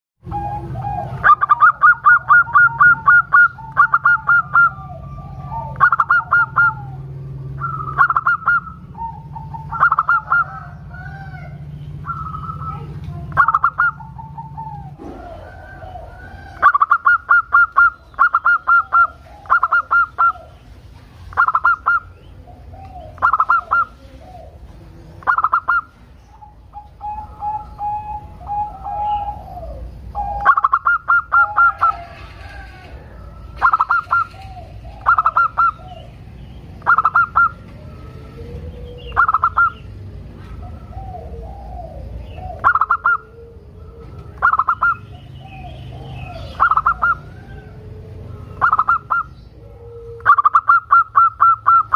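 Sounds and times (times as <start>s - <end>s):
dove rapid staccato cooing: 0.2s - 51.9s
soft low dove coos: 0.2s - 51.9s.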